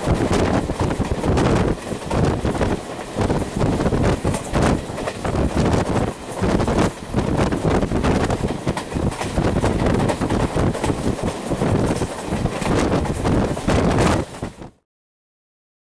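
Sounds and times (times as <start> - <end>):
moving train running noise: 0.0 - 14.8
wind buffeting the microphone: 0.0 - 14.8.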